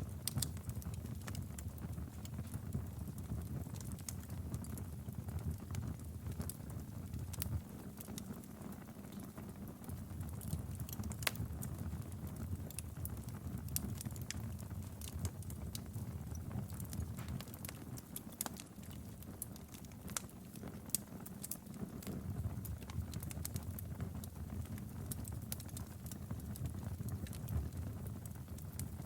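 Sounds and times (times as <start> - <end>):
low rumble of flames: 0.0 - 29.0
wood fire crackling: 0.0 - 29.0
sharp fire pops: 0.1 - 6.5, 10.3 - 29.0.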